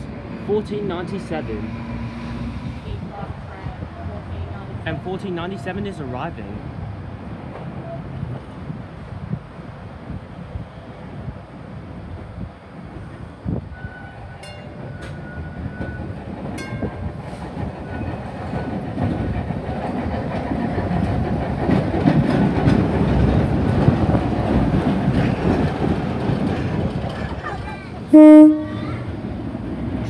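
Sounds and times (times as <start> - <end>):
tram rumbling on rails: 0.0 - 30.0.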